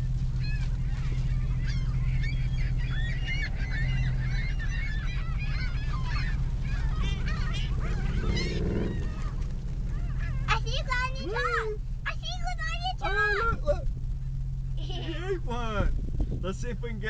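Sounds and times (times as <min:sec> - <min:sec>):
gulls calling: 0:00.0 - 0:15.9
idling truck engine hum: 0:00.0 - 0:17.0.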